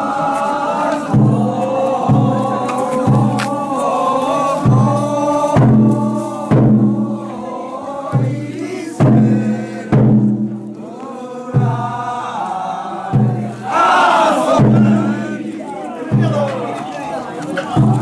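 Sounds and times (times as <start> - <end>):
large drum beats: 0.0 - 3.9, 4.5 - 12.2, 13.1 - 16.9, 17.6 - 18.0
men chanting together: 0.0 - 18.0.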